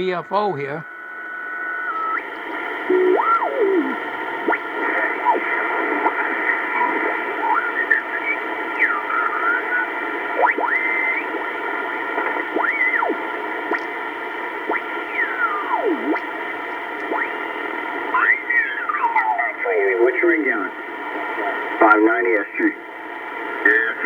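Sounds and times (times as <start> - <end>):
radio band hiss: 0.0 - 24.0.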